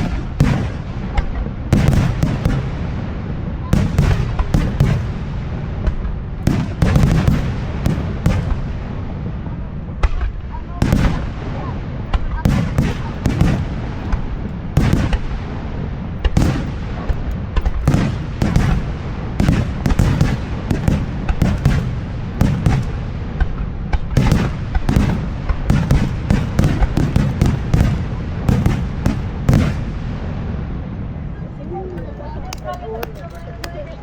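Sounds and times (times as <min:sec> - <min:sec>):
fireworks bangs and booms: 0:00.0 - 0:33.9
low rumble of echoing reports: 0:00.0 - 0:34.0.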